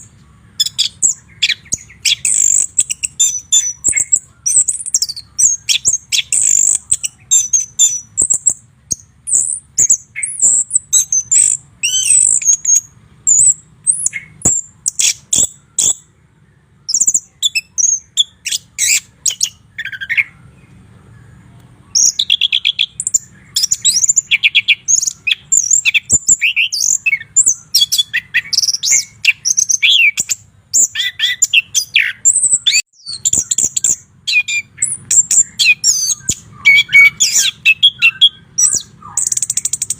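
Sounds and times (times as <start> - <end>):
bird singing whistles and chatter: 0.0 - 39.9.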